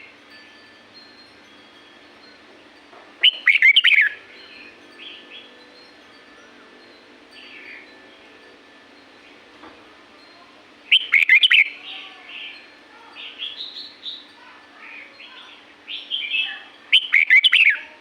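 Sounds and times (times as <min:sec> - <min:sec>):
bulbul singing: 0:00.0 - 0:09.4, 0:10.2 - 0:18.0.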